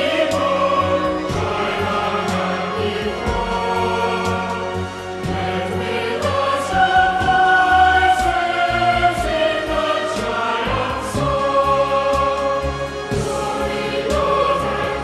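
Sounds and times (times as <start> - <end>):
slow choral singing: 0.0 - 15.0.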